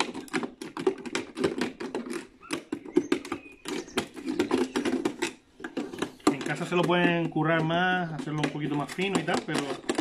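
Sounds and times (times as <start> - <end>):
scissors cutting plastic bottle: 0.0 - 10.0.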